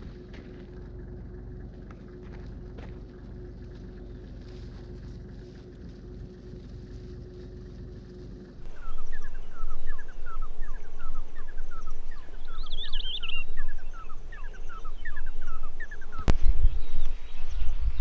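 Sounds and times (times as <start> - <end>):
bird warble: 0.0 - 18.0
birds whistling: 0.0 - 18.0
low rumbling noise: 0.0 - 18.0.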